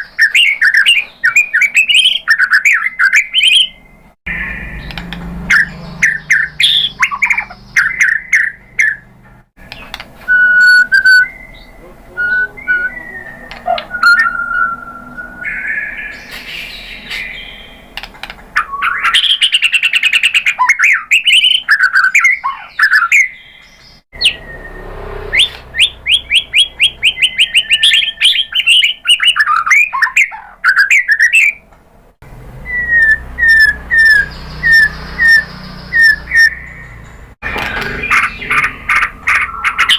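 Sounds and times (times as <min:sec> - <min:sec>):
bird singing whistled phrases: 0:00.0 - 0:09.1, 0:10.2 - 0:17.8, 0:18.6 - 0:31.6, 0:32.6 - 0:37.0.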